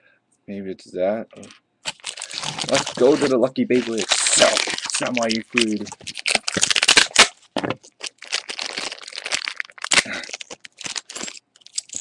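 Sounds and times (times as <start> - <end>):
packaging crackling and crinkling: 1.4 - 12.0.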